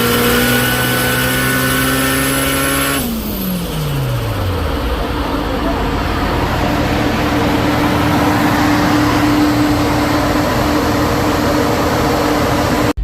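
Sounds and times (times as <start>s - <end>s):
car engine humming on rollers: 0.0s - 13.0s
cooling fans rushing: 0.0s - 13.0s.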